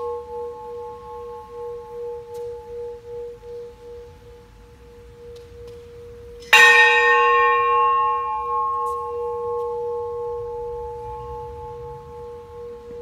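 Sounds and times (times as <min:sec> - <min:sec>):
large bell ringing: 0:00.0 - 0:13.0.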